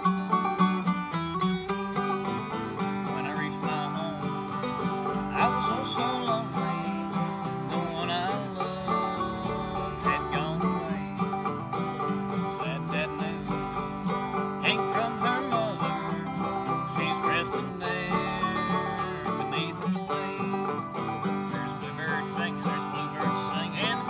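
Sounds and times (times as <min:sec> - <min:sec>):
acoustic guitar: 0:00.0 - 0:24.0
banjo playing: 0:00.0 - 0:24.0.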